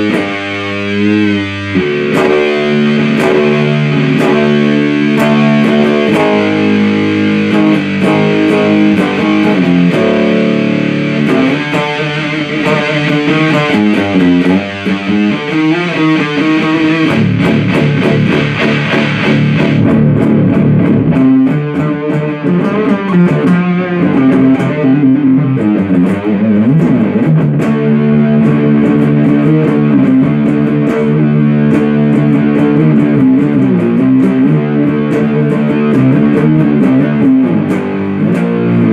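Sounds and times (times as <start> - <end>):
distorted fuzz electric guitar: 0.0 - 38.9.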